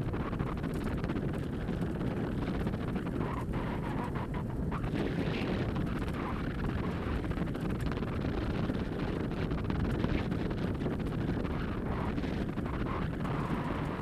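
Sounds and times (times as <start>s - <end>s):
wheels rolling on dirt trail: 0.0s - 14.0s
wind rumble on microphone: 0.0s - 14.0s.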